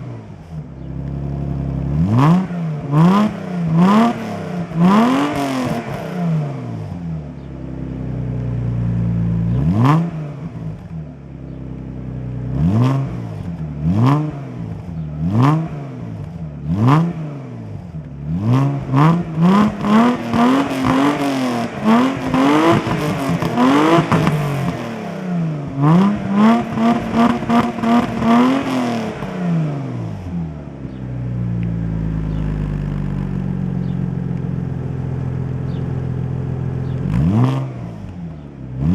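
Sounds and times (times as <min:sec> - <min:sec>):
car engine idling: 0:00.0 - 0:38.9
car engine revving: 0:00.0 - 0:38.9.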